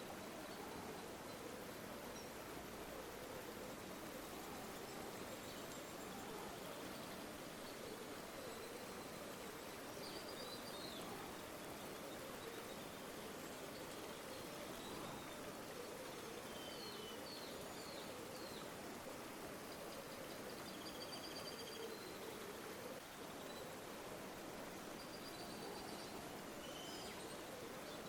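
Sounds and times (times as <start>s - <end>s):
river water running: 0.0s - 28.0s.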